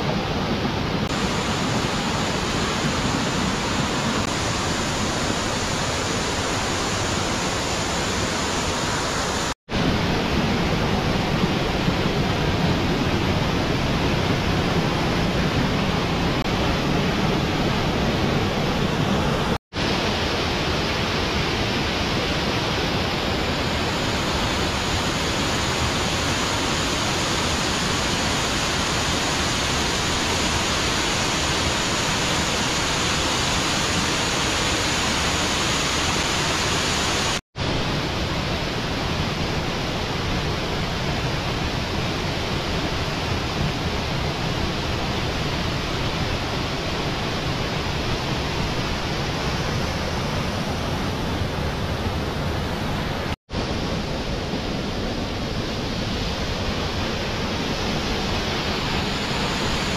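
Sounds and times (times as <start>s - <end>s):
stream rushing over boulders: 0.0s - 59.9s.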